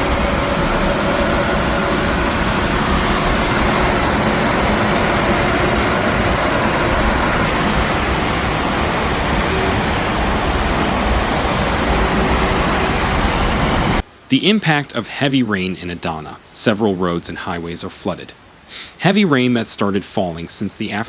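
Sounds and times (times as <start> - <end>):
heavy rain and floodwater rushing: 0.0 - 20.9
faint steady hum: 0.0 - 21.0.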